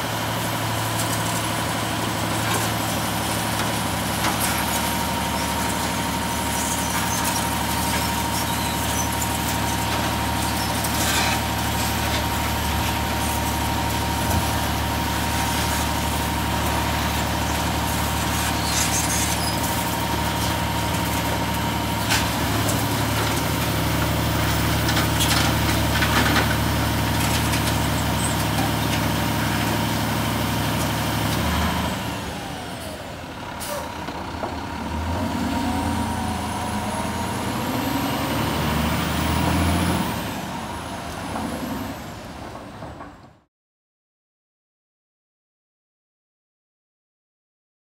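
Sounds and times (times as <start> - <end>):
garbage truck diesel engine: 0.0 - 43.5.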